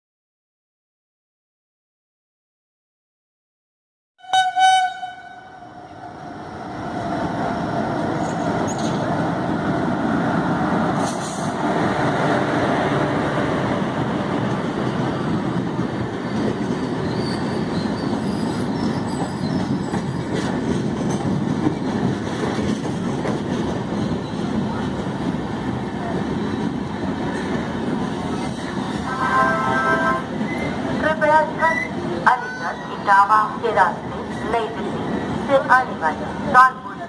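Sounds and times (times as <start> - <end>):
train wheels rumbling on rails: 5.9 - 37.0.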